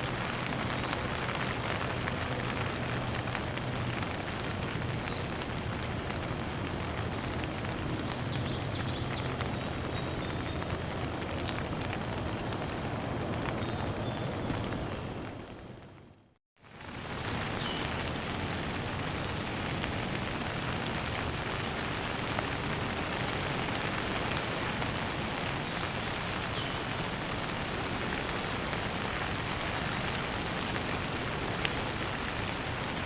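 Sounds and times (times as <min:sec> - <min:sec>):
steady rain: 0:00.0 - 0:16.0, 0:16.6 - 0:33.0.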